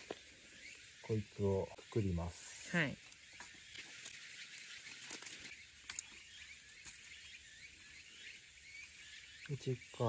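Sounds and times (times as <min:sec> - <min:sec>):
faint chirps: 0:00.0 - 0:10.0
steady high outdoor hiss: 0:00.0 - 0:10.0.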